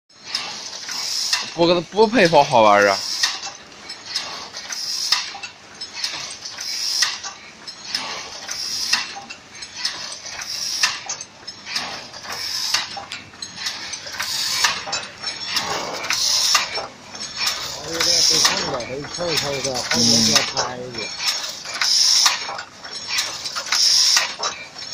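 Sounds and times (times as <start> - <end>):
weaving machine metallic clatter: 0.1 - 24.9
rapid machine clicking: 0.2 - 24.9.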